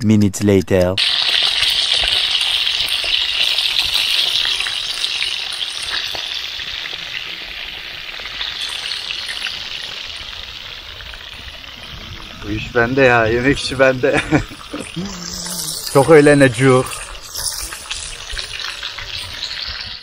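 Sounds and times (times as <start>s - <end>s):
fish sizzling in oil: 1.0s - 20.0s.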